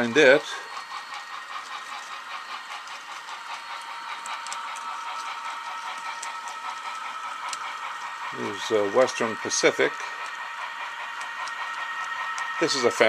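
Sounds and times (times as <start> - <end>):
model train motor whine: 0.0 - 13.0
wheels rattling on rails: 0.0 - 13.0.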